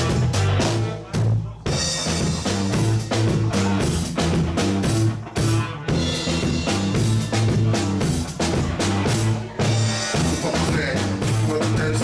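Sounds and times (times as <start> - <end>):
bass line: 0.0 - 12.0
drum kit: 0.0 - 12.0
guitar: 0.0 - 12.0.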